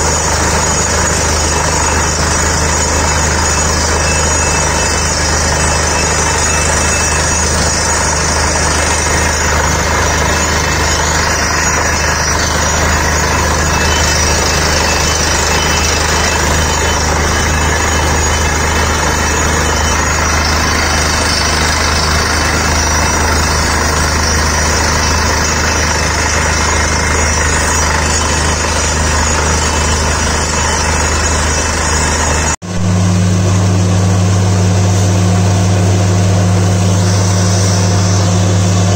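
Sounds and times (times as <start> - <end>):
air blasting rock dust: 0.0 - 38.9
drilling rig engine drone: 0.0 - 38.9.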